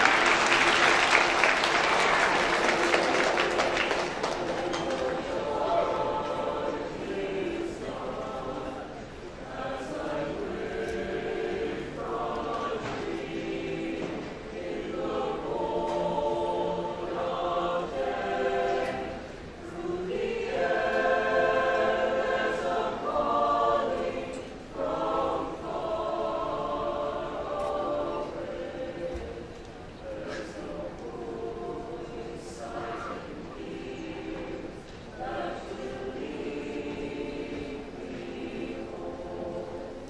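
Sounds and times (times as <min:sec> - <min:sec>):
choir singing in parts: 0:00.0 - 0:40.0.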